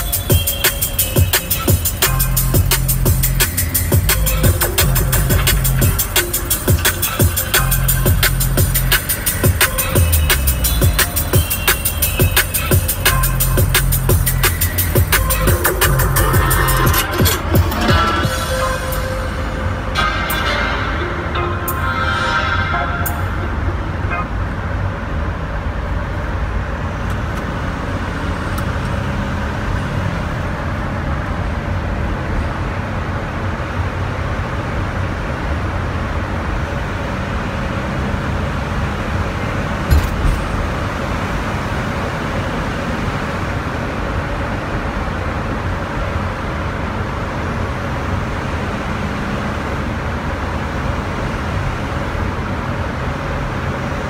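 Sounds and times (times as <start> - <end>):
car road noise in tunnel: 0.0 - 54.0.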